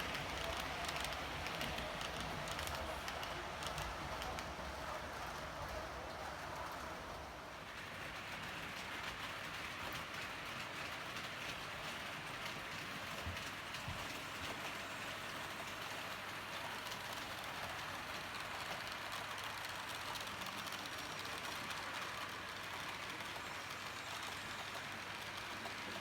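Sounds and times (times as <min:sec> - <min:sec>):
model train rolling on track: 0:00.0 - 0:26.0.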